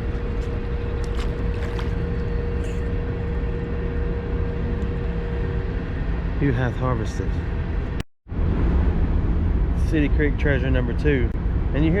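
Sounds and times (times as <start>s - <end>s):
continuous hum: 0.0s - 12.0s.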